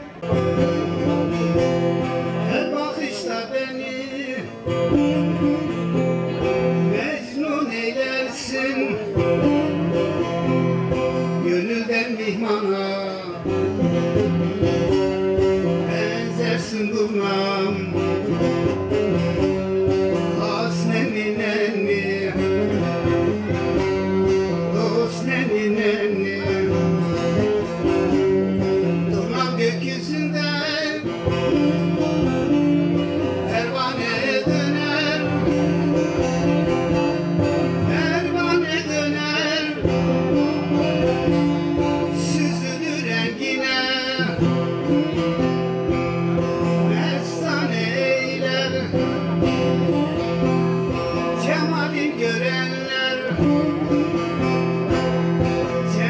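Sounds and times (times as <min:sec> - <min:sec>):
long-necked lute playing: 0:00.0 - 0:56.0
man singing through loudspeaker: 0:02.4 - 0:05.5, 0:06.3 - 0:14.0, 0:15.6 - 0:19.2, 0:20.2 - 0:23.6, 0:24.3 - 0:28.2, 0:28.8 - 0:32.6, 0:33.2 - 0:45.0, 0:46.5 - 0:56.0.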